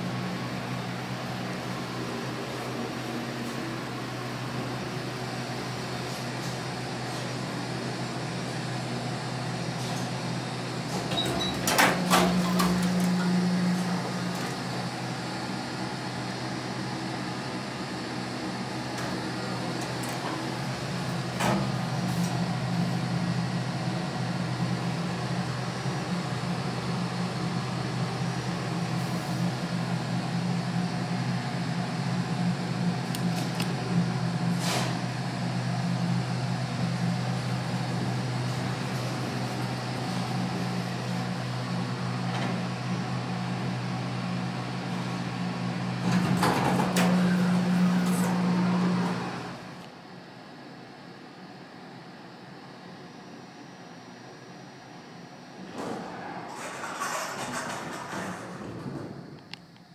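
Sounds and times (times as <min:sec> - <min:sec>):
elevator mechanical hum: 0:00.0 - 0:59.9.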